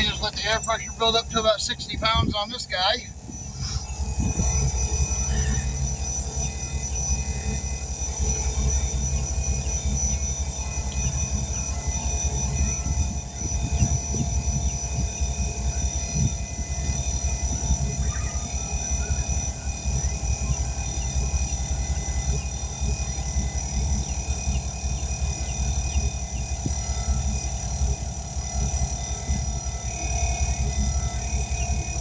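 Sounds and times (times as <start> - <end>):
air compressor running: 0.0 - 32.0.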